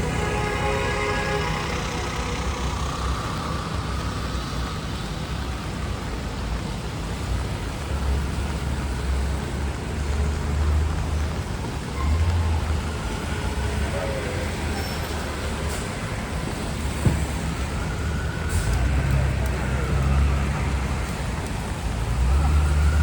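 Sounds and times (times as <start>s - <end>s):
heavy vehicle engine rumble: 0.0s - 23.0s
traffic engine noise: 0.0s - 23.0s
tyres hissing on wet pavement: 0.0s - 23.0s.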